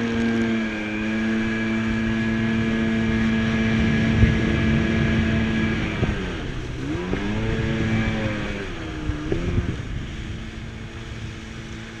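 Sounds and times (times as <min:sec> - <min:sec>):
jet ski engine revving: 0:00.0 - 0:12.0
rush of water and wind: 0:00.0 - 0:12.0.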